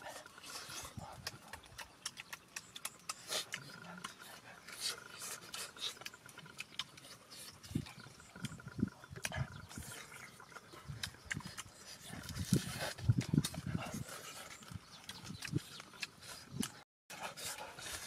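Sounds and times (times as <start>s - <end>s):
person chewing noisily: 0.0s - 18.0s.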